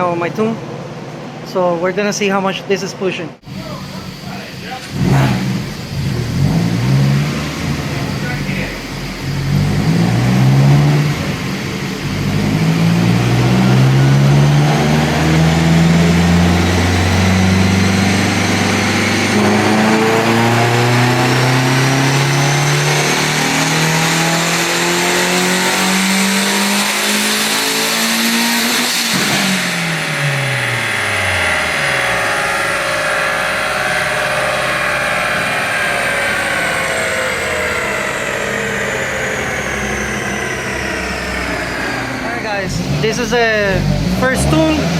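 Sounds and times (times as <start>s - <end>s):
car engine revving: 3.4s - 44.9s
turbo whine: 3.4s - 44.9s.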